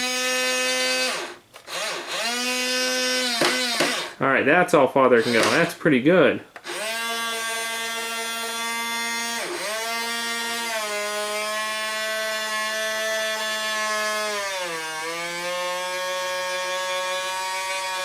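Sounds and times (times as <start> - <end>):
toy electric motors whining: 0.0 - 4.2, 5.2 - 5.7, 6.6 - 18.0.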